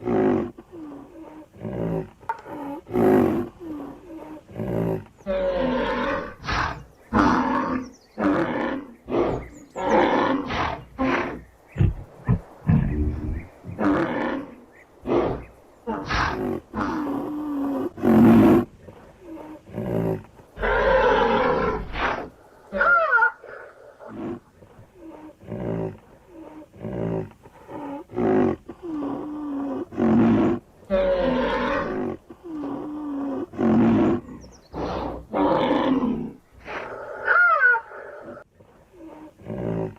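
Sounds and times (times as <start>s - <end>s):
rhinoceros calling: 0.0s - 39.9s.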